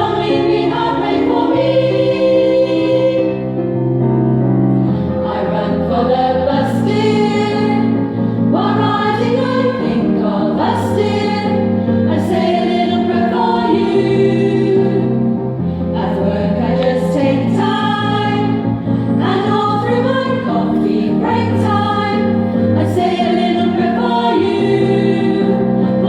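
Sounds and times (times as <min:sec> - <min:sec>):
women's choir singing: 0:00.0 - 0:03.7, 0:04.8 - 0:26.0.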